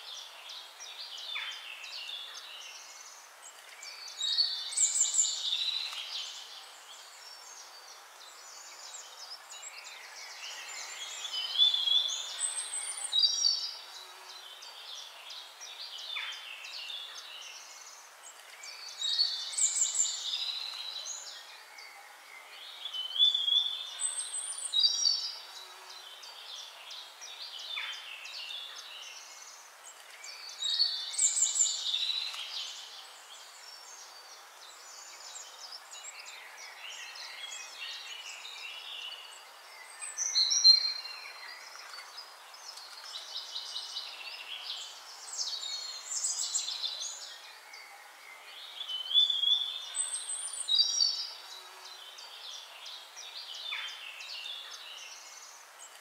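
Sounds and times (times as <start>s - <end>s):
birds chirping and singing: 0.0s - 56.0s
steady hiss: 0.0s - 56.0s.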